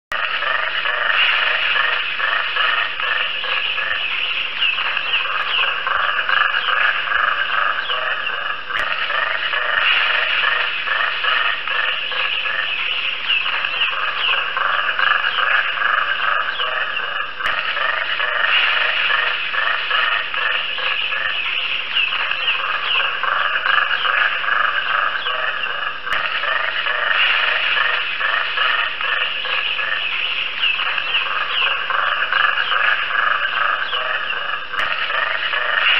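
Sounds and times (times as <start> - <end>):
chorus of pulsed croaking: 0.1 - 35.9.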